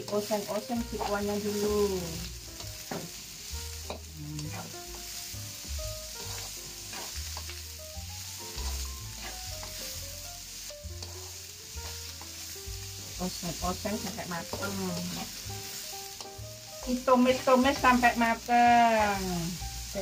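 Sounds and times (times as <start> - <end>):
food sizzling in hot oil: 0.0 - 20.0
spatula scraping and tapping wok: 0.0 - 20.0.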